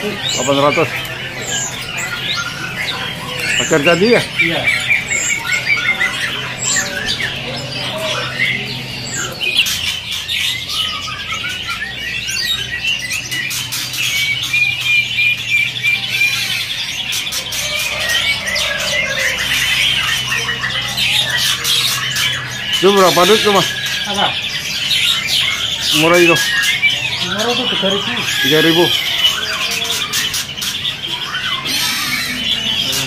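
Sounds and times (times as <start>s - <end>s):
fast bird trill: 0.0s - 33.0s
songbirds chirping and calling: 0.0s - 33.0s.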